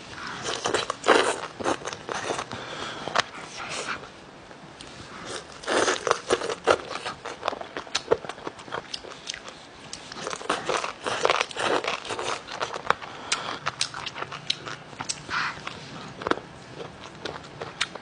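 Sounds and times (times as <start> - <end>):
chewing crunchy food: 0.1 - 4.1, 4.8 - 18.0.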